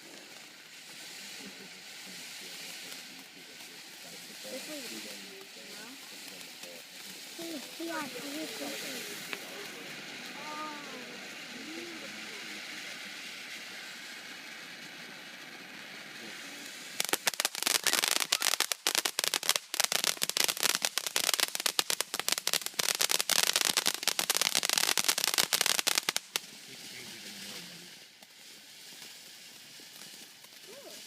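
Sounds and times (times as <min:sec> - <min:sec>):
firecracker fuse hissing: 0:00.0 - 0:31.0
firecrackers popping: 0:00.0 - 0:31.0.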